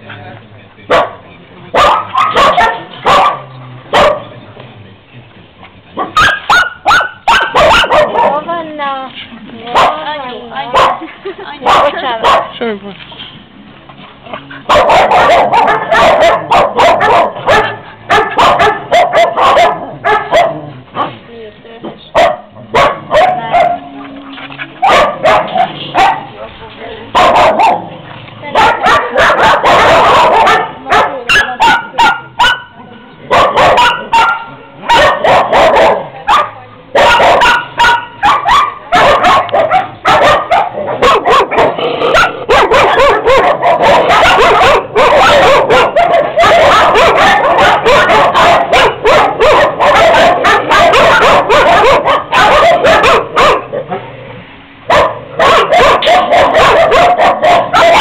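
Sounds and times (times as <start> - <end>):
many dogs barking: 0.8 - 4.4, 6.0 - 8.8, 9.6 - 12.6, 14.2 - 21.2, 21.9 - 54.1, 54.9 - 58.0.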